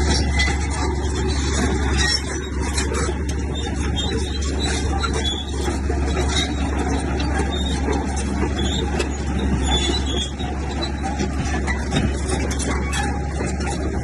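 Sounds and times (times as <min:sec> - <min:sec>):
bulldozer diesel engine running: 0:00.0 - 0:14.0
heavy mechanical clatter: 0:00.0 - 0:14.0.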